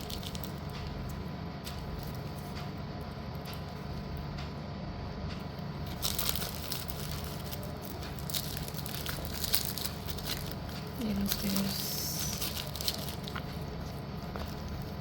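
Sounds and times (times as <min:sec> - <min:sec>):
crunchy crackling and crinkling: 0:00.0 - 0:04.6, 0:05.2 - 0:15.0
steady low hum: 0:00.0 - 0:15.0.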